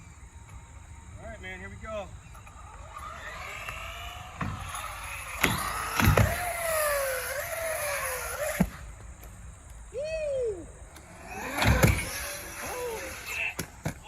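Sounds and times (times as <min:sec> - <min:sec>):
rc truck motor whining: 0:00.3 - 0:09.9, 0:10.9 - 0:14.0.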